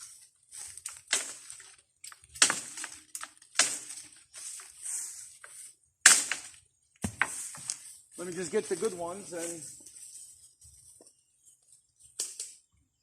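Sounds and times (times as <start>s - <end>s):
leaves and branches rustling: 0.0s - 12.6s.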